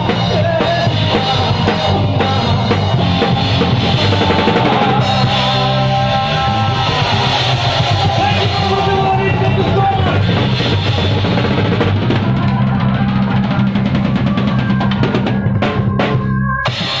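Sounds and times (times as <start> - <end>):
drum roll: 0.0 - 17.0.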